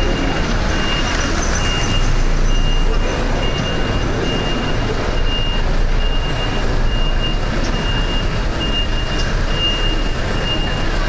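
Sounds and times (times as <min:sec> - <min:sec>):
city traffic rumble: 0:00.0 - 0:11.0
reversing alarm beeping: 0:00.0 - 0:11.0.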